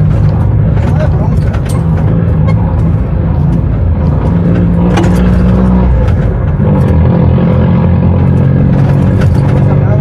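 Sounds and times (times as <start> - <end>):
bus engine running: 0.0 - 10.0.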